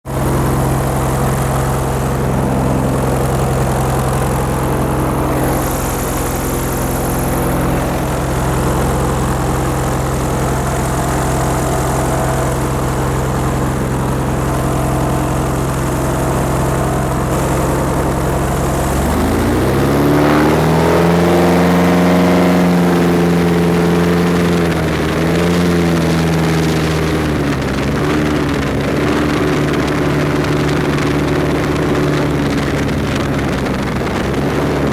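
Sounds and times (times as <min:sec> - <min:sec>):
airboat engine and propeller: 0:00.0 - 0:34.9.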